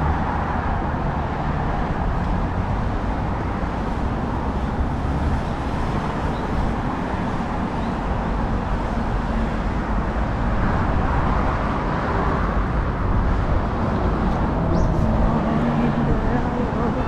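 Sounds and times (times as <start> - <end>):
road traffic rumble and tyre hiss: 0.0 - 17.0.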